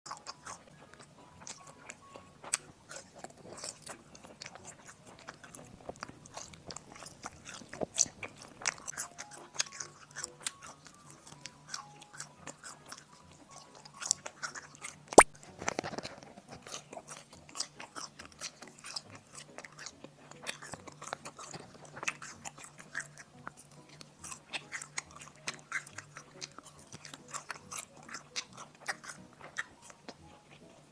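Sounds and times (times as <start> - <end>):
wet mouth clicks: 0.1 - 30.8
chewing and biting: 0.1 - 30.9.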